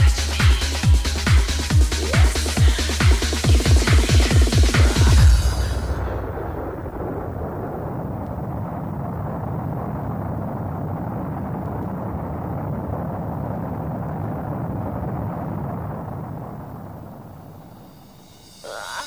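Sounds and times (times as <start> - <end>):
dense low electronic noise effect: 0.0 - 19.0.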